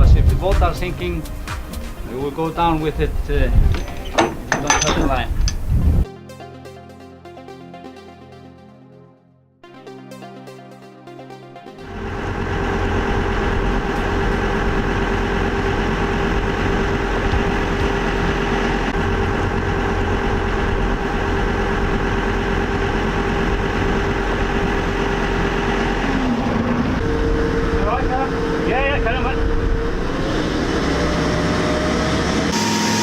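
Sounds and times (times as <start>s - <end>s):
boat engine droning: 0.0s - 6.0s, 11.8s - 33.0s.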